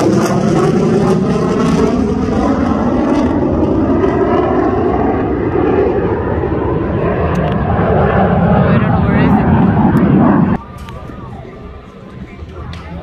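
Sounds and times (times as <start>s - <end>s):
jet engine roaring overhead: 0.0s - 13.0s.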